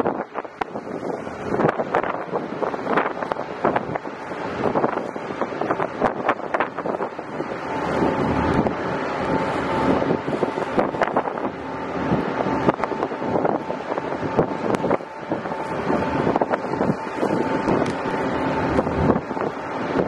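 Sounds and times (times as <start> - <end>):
boat engine running: 0.0 - 20.0
wind buffeting the microphone: 0.0 - 20.0.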